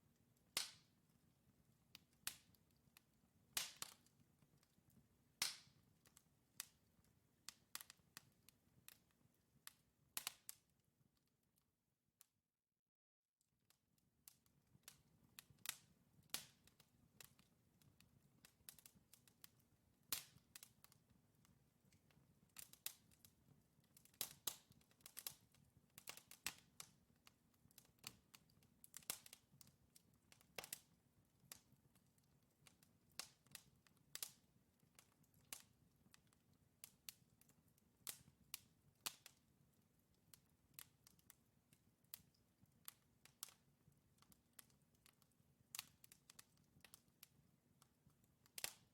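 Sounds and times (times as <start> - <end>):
crackles and pops of logs: 0.4 - 1.0, 1.9 - 10.7, 14.2 - 48.9.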